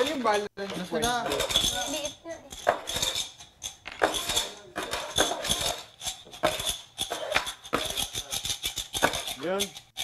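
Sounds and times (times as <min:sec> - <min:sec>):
cups clattering on wooden table: 0:00.1 - 0:10.0.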